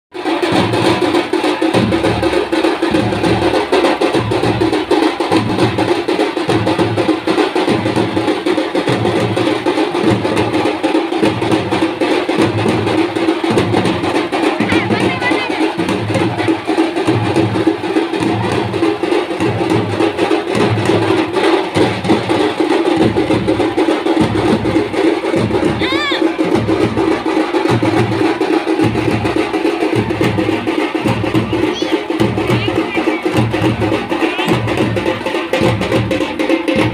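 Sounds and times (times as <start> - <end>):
frame drums and barrel drum beating: 0.1 - 36.9.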